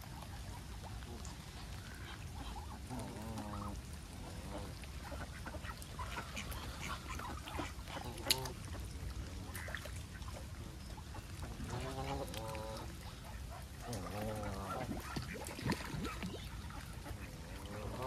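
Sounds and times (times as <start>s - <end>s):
ducks quacking: 0.9s - 18.0s.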